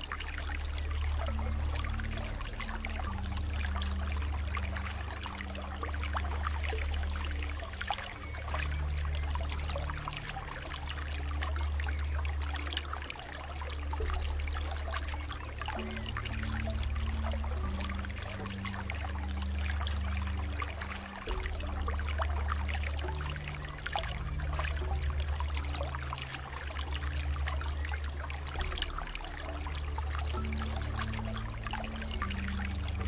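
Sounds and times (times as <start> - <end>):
deep sustained hum: 0.0 - 33.0
water trickling and pouring: 0.0 - 33.0.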